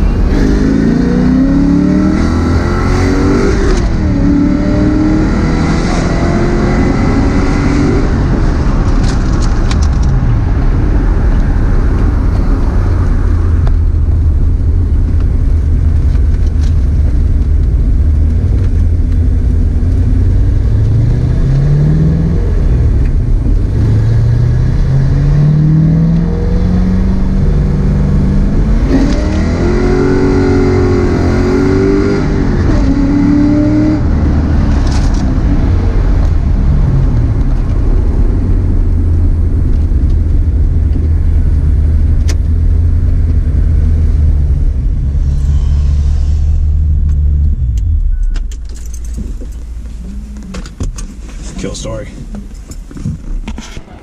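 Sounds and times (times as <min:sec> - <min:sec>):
car engine accelerating: 0:00.0 - 0:54.0
road noise: 0:00.0 - 0:54.0.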